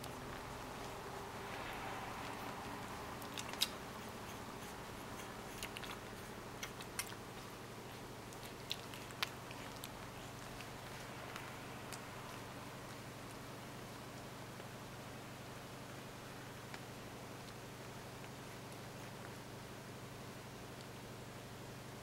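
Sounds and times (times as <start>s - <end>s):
puppies suckling clicks: 0.0s - 15.2s, 16.0s - 21.2s
faint steady hum: 0.0s - 22.0s.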